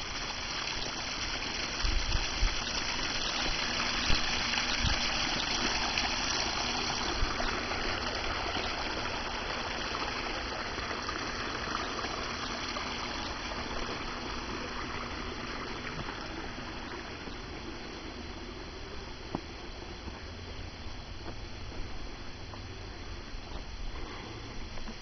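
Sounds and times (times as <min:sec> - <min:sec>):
water running over rocks: 0:00.0 - 0:20.2.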